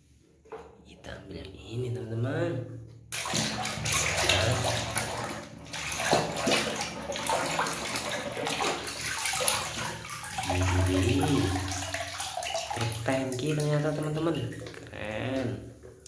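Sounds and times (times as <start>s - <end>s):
water sloshing in a basin: 3.1s - 16.0s.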